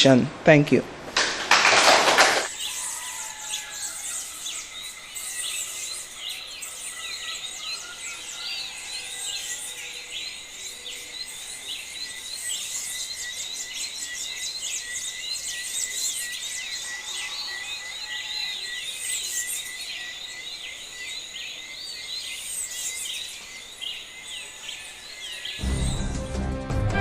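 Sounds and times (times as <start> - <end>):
chorus of birds chirping: 1.7 - 26.1.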